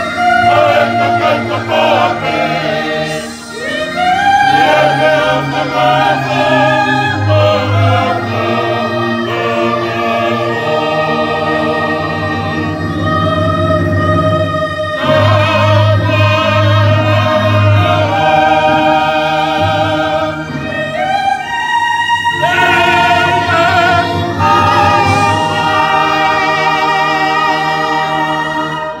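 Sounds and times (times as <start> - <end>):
choir singing a hymn: 0.0 - 29.0.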